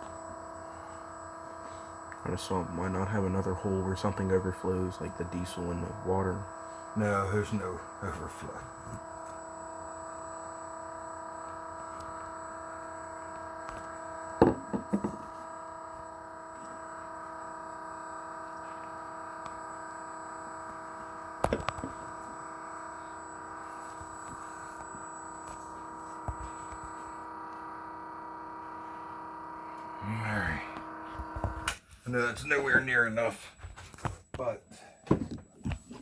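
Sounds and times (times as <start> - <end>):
electric pump humming: 0.0 - 34.1.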